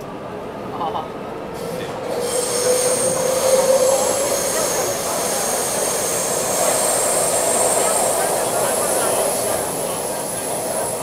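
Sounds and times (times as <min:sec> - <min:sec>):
low train whine: 0:00.0 - 0:11.0
train wheels squealing: 0:01.6 - 0:11.0.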